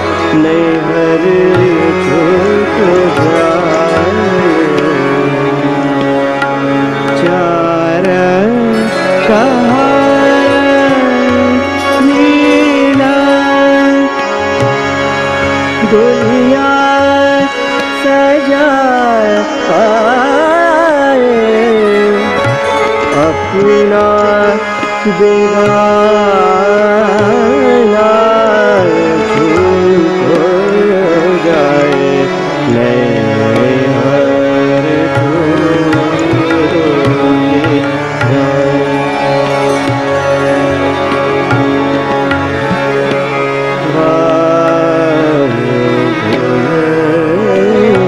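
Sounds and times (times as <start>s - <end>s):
man singing ornamented melody: 0.0s - 48.0s
tabla rhythm: 0.0s - 48.0s.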